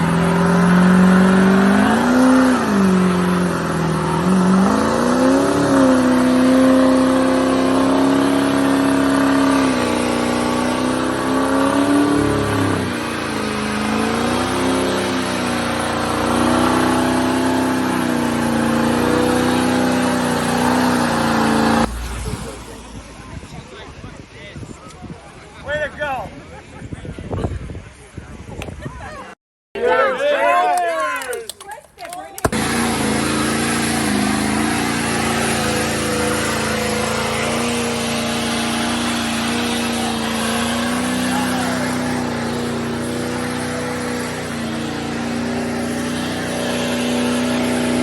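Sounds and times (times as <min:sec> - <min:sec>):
diesel engine revving hard: 0:00.0 - 0:23.4, 0:32.4 - 0:48.0
spinning tyres hissing: 0:00.0 - 0:23.4, 0:32.4 - 0:48.0.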